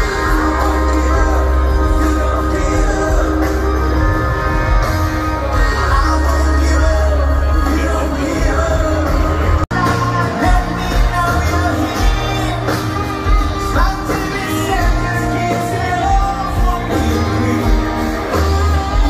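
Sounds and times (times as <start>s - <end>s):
live rock band with singer: 0.0s - 19.0s.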